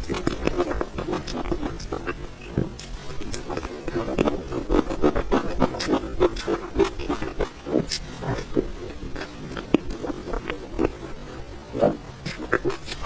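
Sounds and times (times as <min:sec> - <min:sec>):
chewing and lip smacking: 0:00.0 - 0:13.0.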